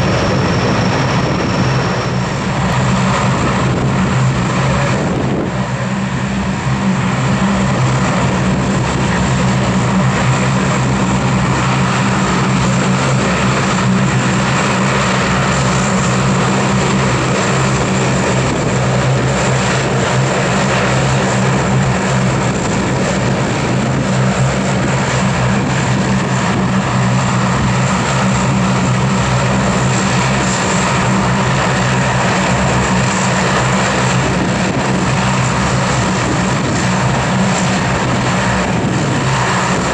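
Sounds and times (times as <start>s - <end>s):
deep propeller drone: 0.0s - 39.9s
high turbine whine: 0.0s - 39.9s.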